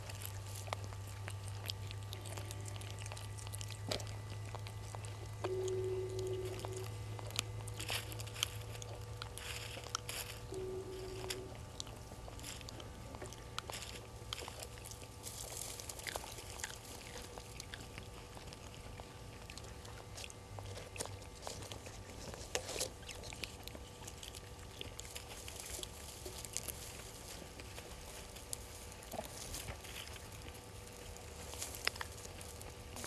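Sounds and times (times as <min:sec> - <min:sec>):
dry leaves crackling and rustling: 0:00.0 - 0:33.0
steady low hum: 0:00.0 - 0:33.0.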